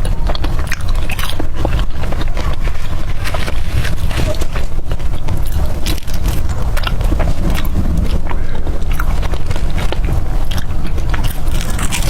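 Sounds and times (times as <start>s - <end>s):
biting and chewing burger: 0.0s - 12.0s.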